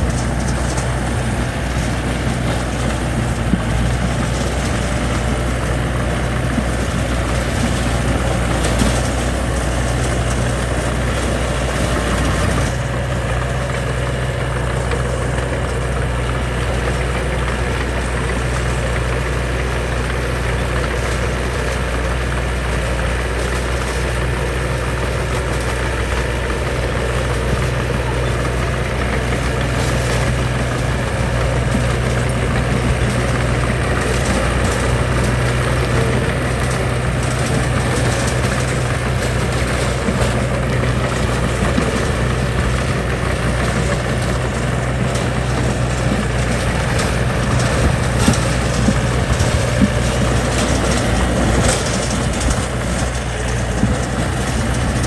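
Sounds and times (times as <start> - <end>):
heavy diesel engine running: 0.0 - 55.0
knocks and clanks: 0.0 - 55.0.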